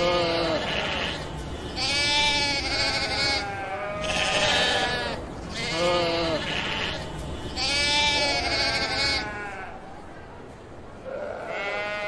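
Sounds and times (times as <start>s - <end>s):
sheep bleating: 0.0s - 9.8s, 11.1s - 12.0s.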